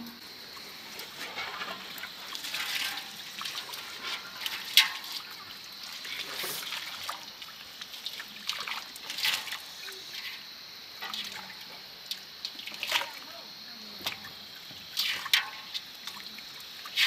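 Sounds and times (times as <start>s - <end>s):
water pouring and splashing: 0.4s - 17.0s.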